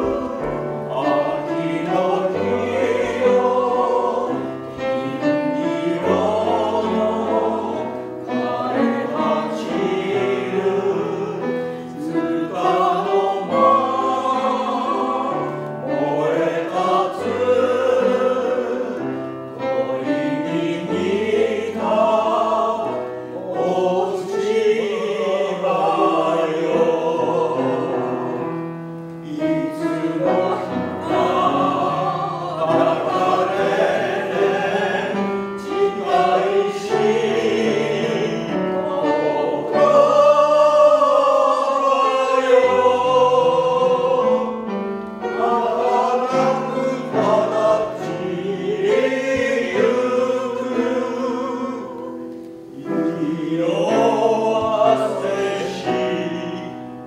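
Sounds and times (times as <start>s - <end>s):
upright piano: 0.0s - 57.0s
vocal ensemble singing: 0.0s - 57.0s.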